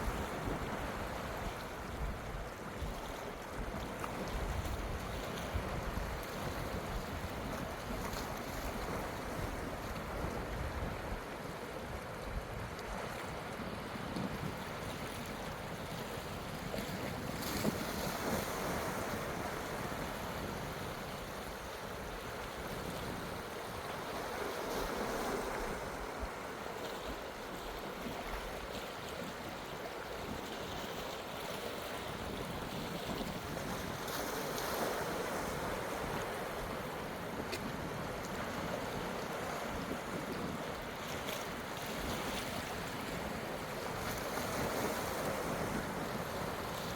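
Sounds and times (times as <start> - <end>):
waves washing onto rocks: 0.0 - 46.9.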